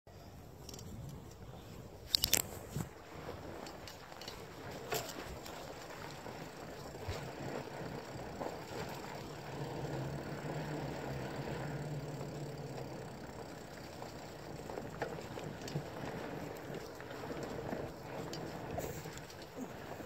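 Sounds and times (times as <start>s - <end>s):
low steady hum: 0.1s - 20.0s
bike tyres on dirt: 0.2s - 20.0s
bike rattling over bumps: 2.1s - 20.0s.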